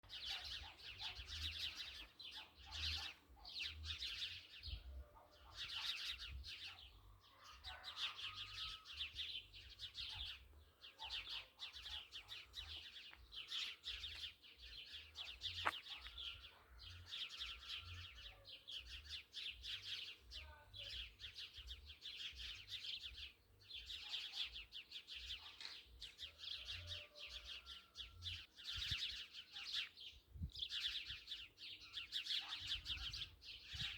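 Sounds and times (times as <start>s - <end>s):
small birds chirping chorus: 0.0s - 33.9s.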